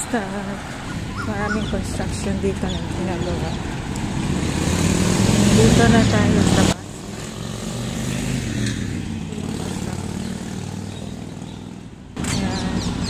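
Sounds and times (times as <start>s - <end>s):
passing vehicle engine hum: 0.0s - 13.0s.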